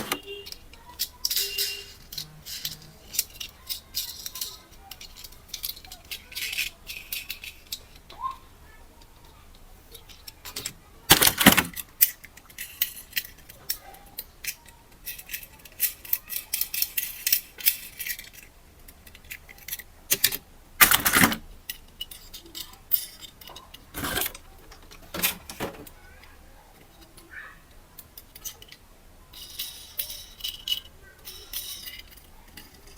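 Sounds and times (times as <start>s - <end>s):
small hard objects rattling: 0.0s - 32.9s.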